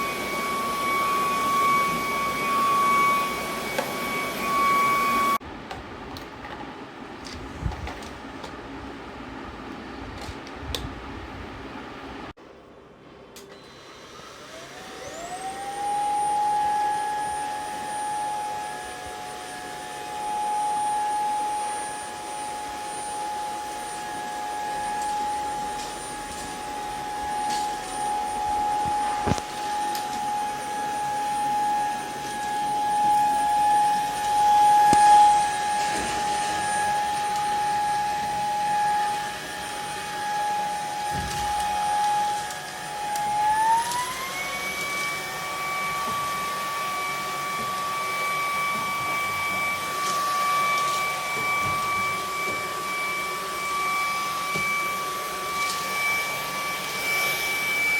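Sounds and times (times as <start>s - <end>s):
vacuum motor whining: 0.0s - 5.4s, 13.4s - 57.9s.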